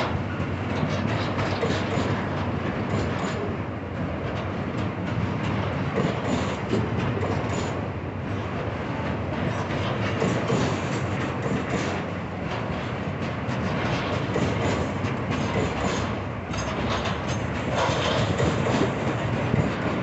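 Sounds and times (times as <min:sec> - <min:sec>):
wheel clacks and clicks: 0:00.0 - 0:07.8, 0:08.6 - 0:20.0
freight train wheels rumbling: 0:00.0 - 0:20.0.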